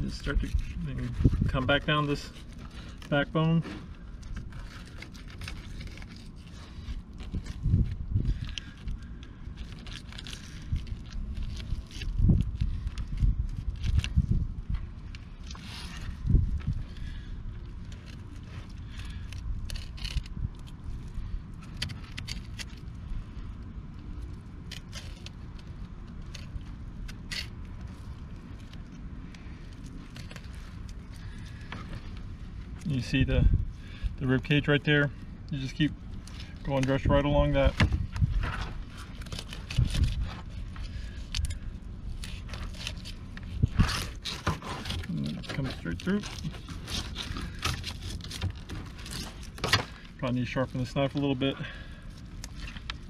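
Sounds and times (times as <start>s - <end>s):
knife scraping scales and bone: 0.0s - 14.4s, 15.0s - 34.6s, 35.5s - 53.0s
low rumble: 0.0s - 53.0s.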